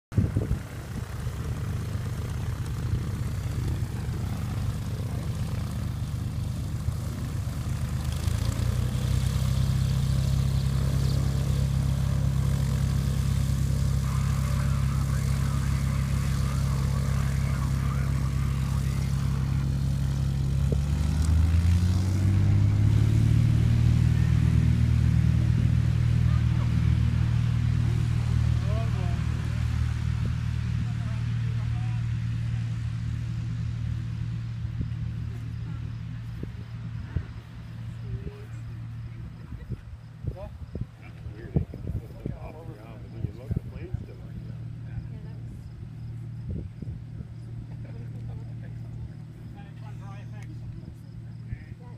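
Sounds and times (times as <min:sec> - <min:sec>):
propeller plane engine: 0:00.1 - 0:51.9.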